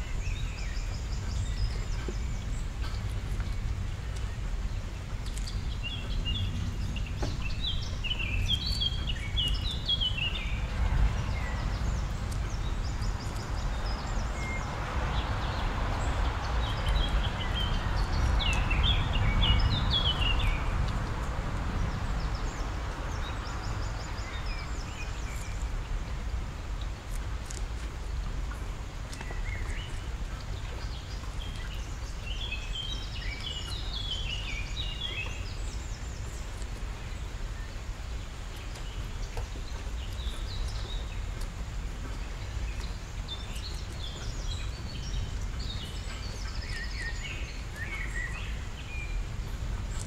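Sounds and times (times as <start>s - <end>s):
low background rumble: 0.0s - 50.0s.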